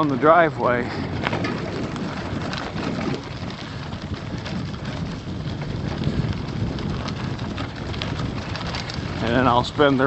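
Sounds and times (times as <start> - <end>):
ground noise: 0.0 - 10.0
wind buffeting microphone: 0.0 - 10.0.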